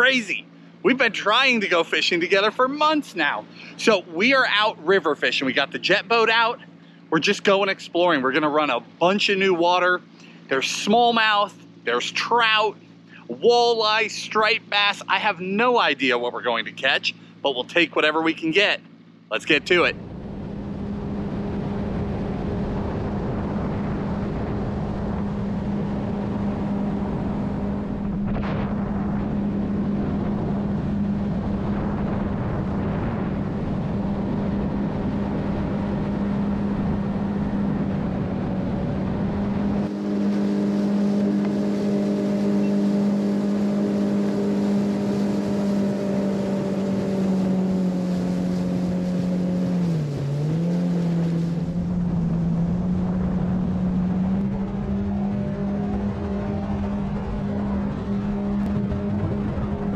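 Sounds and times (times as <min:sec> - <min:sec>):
outboard boat engine running: 0:00.0 - 0:59.9
water rushing: 0:07.2 - 0:59.9.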